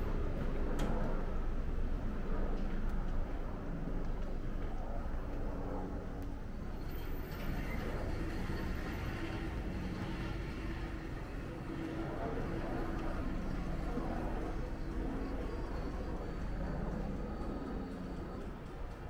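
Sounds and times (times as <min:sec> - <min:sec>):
low street rumble: 0:00.0 - 0:19.0
murmur of distant voices: 0:00.0 - 0:19.0.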